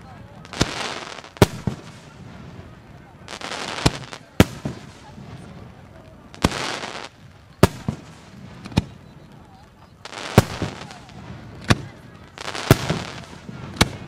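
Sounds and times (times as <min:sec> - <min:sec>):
firework hiss: 0:00.3 - 0:14.0.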